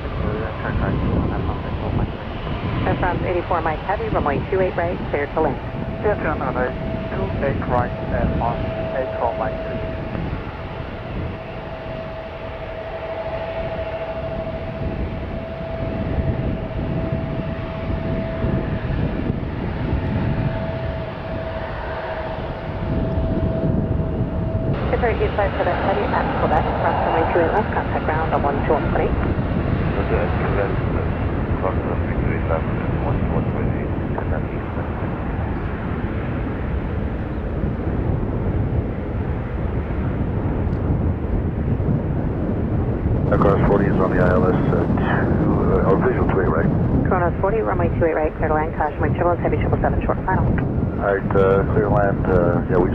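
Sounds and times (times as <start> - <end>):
jet engines rumbling: 0.0 - 52.9
wind buffeting microphone: 0.0 - 52.9.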